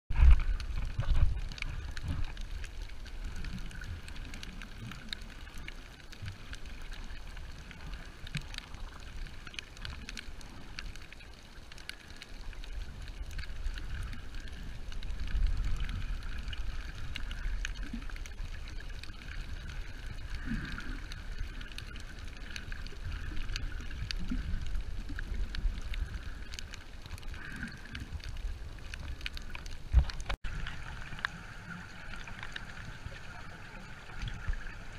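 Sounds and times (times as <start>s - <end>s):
underwater rumbling and sloshing: 0.1s - 34.9s
faint clicks: 0.2s - 34.8s.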